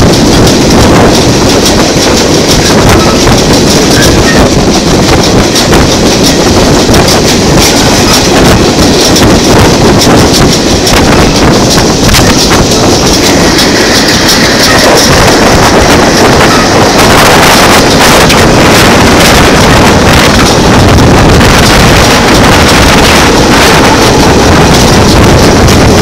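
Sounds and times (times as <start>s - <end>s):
rumble of train wheels: 0.0s - 26.0s
wind buffeting microphone: 0.0s - 26.0s.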